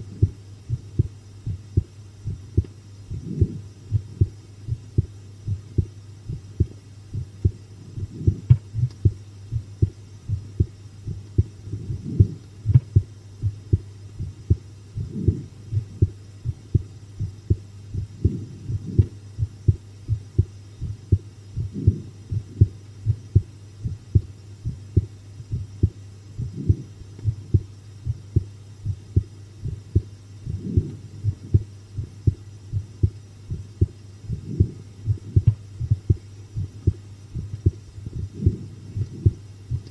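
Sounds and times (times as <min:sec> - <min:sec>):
constant low hum: 0:00.0 - 0:39.9
heartbeat thumps: 0:00.0 - 0:39.9.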